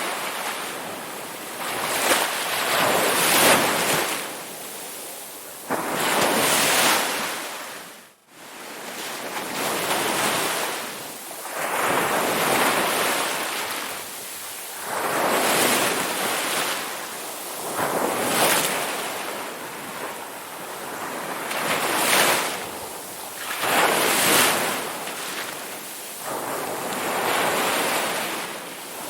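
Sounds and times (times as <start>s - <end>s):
ocean waves breaking: 5.6s - 29.0s.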